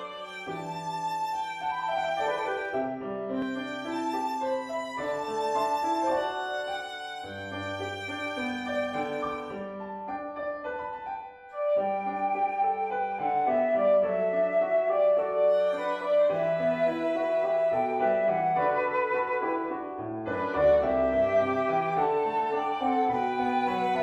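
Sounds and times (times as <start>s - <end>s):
flute: 0.0s - 24.0s
piano: 0.0s - 24.0s
violin: 0.0s - 24.0s.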